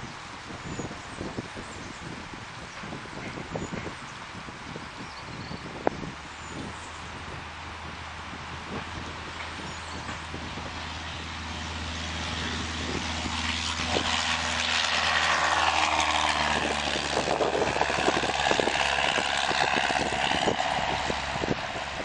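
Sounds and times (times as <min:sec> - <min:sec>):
propeller plane engine: 0:00.0 - 0:22.0.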